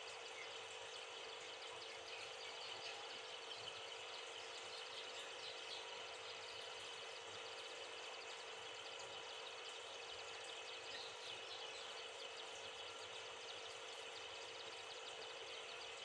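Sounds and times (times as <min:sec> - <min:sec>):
aquarium low hum: 0:00.0 - 0:16.0.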